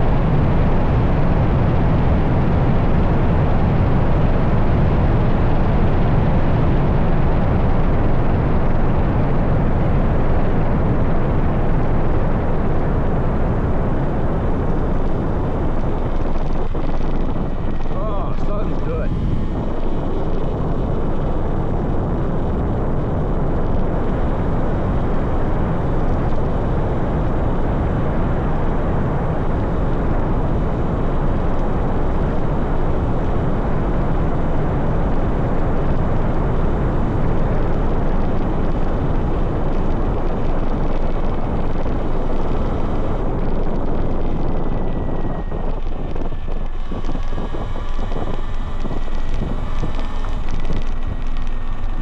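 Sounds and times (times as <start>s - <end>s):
heavy wind buffeting microphone: 0.0s - 52.0s.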